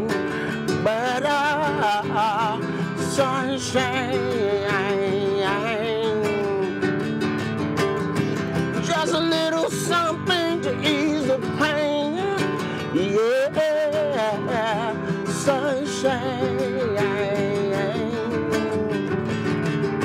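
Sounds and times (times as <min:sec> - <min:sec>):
strummed acoustic guitar: 0:00.0 - 0:20.0
wordless singing with vibrato: 0:00.0 - 0:20.0.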